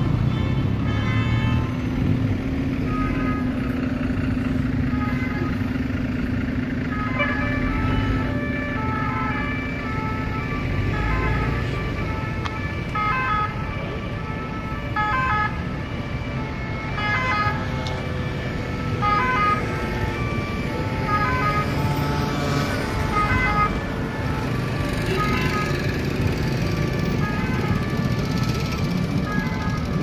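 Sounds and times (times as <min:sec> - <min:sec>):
city traffic rumble: 0:00.0 - 0:30.0
two-tone emergency sirens: 0:00.0 - 0:30.0.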